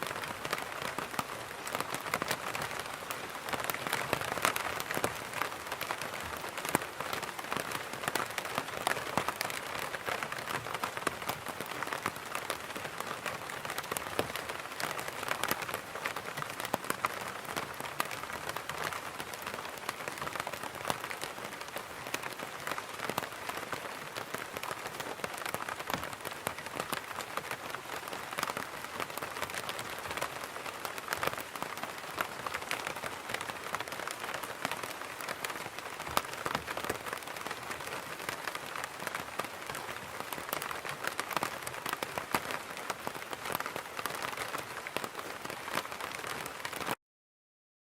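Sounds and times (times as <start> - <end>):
rain pattering on an umbrella: 0.0 - 47.0.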